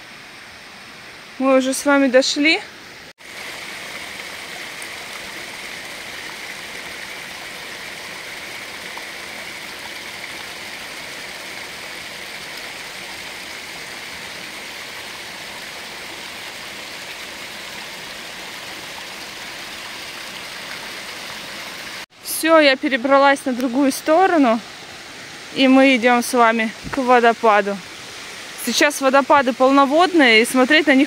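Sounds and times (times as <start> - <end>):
stream splashing over rocks: 3.2 - 31.0.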